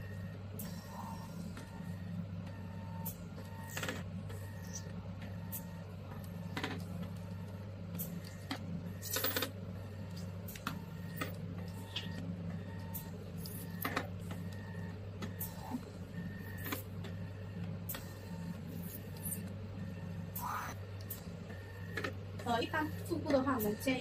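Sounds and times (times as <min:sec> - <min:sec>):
machine low hum: 0:00.0 - 0:24.0.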